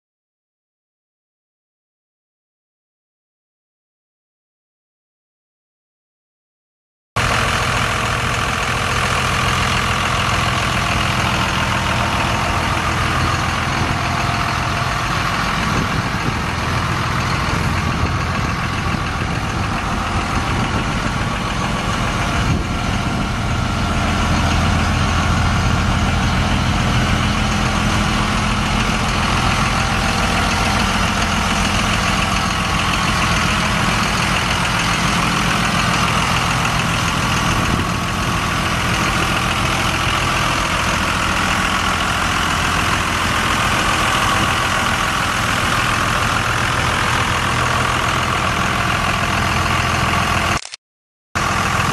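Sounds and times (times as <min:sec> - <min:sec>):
diesel engine idling: 0:07.2 - 0:50.7, 0:51.4 - 0:51.9.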